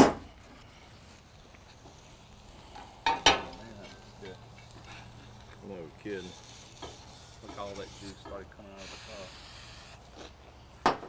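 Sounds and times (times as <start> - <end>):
steak sizzling on grill: 0.2 - 10.8.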